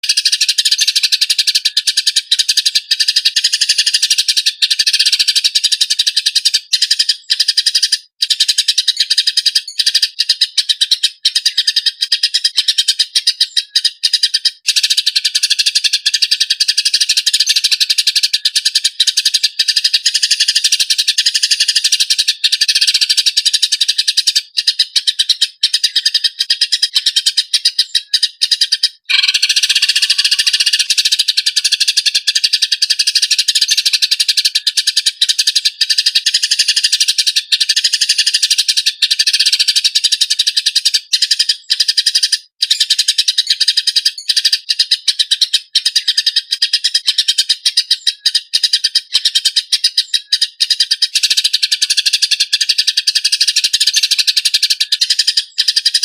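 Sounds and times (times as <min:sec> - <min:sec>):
sparrows chattering: 0:00.0 - 0:56.0.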